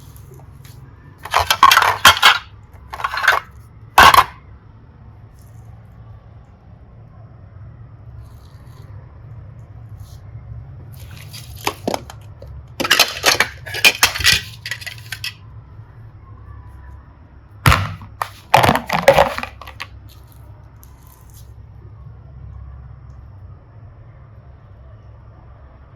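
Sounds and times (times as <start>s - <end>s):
low steady hum: 0.0s - 25.5s.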